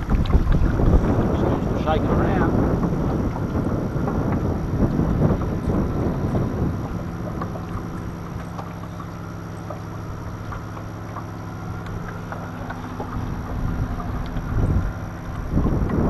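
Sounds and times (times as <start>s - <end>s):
boat motor humming: 0.0s - 16.0s
wind buffeting microphone: 0.0s - 16.0s.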